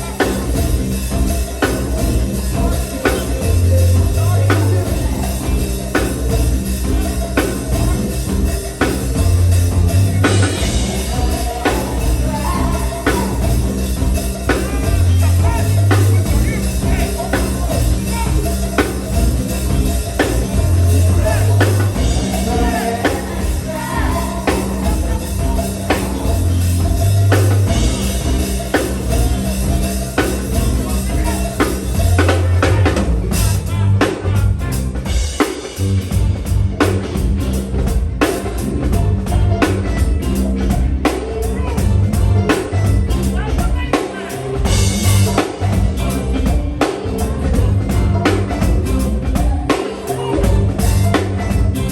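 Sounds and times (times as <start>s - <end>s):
person singing or calling: 0.0s - 34.8s, 38.9s - 51.9s
drum kit beat: 0.0s - 51.9s
heavy bass line: 0.0s - 51.9s.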